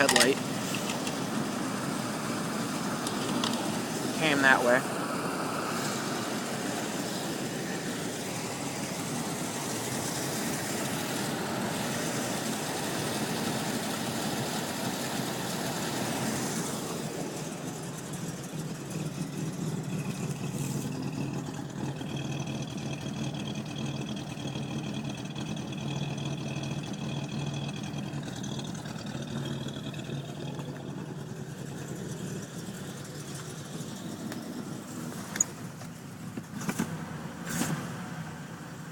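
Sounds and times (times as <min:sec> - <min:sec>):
car engine idling: 0:00.0 - 0:37.4.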